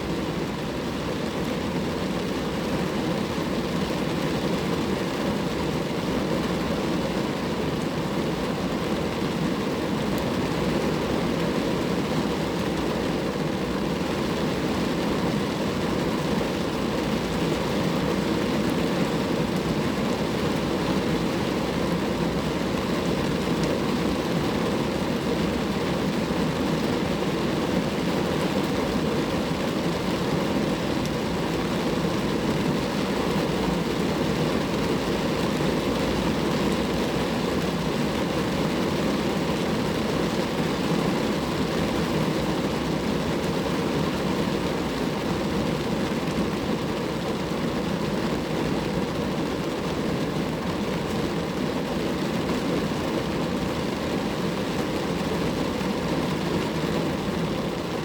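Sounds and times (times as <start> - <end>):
rain on a car: 0.0 - 58.0.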